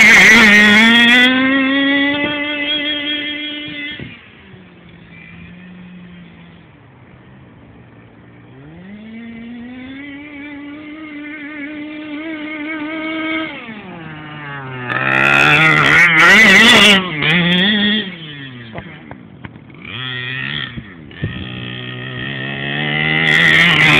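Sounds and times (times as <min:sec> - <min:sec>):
two-stroke engine revving: 0:00.0 - 0:23.9.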